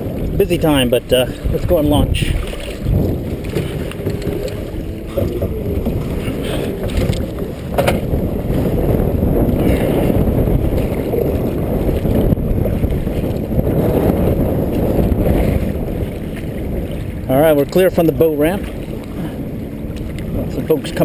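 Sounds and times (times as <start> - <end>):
water washing against kayak: 0.0 - 21.0
wind rumbling on microphone: 0.0 - 21.0.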